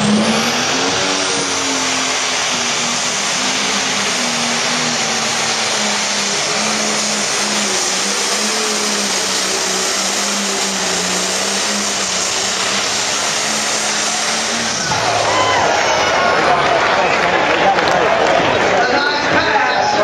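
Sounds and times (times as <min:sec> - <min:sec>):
diesel engine droning under load: 0:00.0 - 0:20.0.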